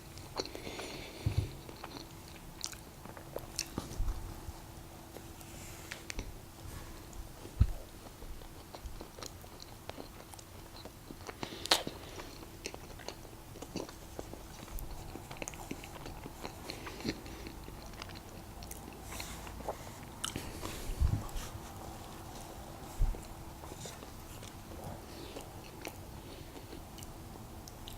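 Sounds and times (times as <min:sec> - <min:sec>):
chewing and biting doughnuts: 0:00.0 - 0:05.3, 0:07.4 - 0:27.9.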